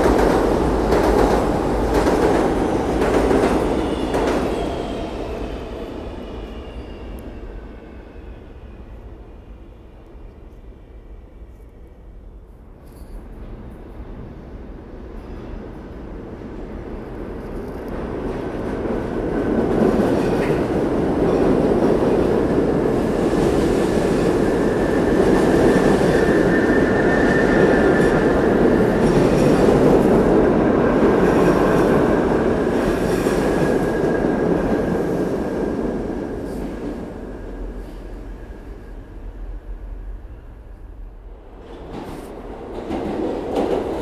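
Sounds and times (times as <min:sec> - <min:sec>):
subway train rumbling past: 0:00.0 - 0:44.0.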